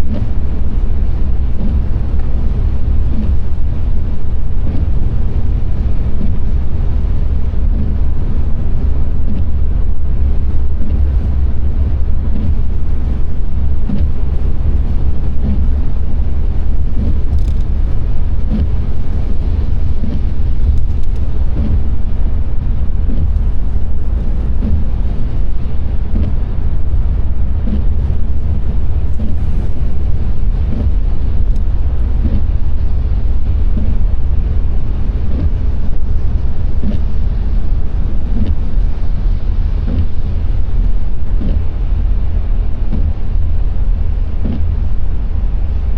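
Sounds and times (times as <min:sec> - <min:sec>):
car engine rumble: 0:00.0 - 0:45.9
rain: 0:00.0 - 0:45.9
tyres on wet road: 0:00.0 - 0:45.9.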